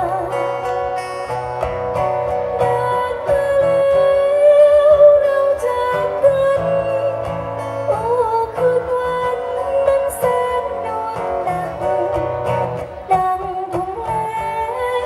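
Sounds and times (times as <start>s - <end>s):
woman singing into a microphone: 0.0s - 1.4s, 2.3s - 15.0s
live band music: 0.0s - 15.0s.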